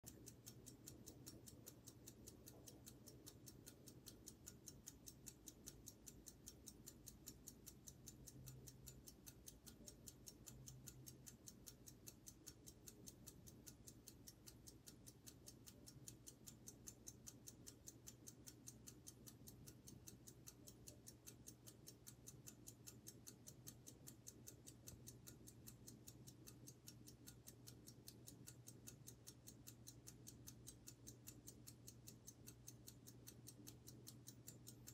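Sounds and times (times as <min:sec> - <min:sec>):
pocket watch ticking: 0:00.0 - 0:34.9.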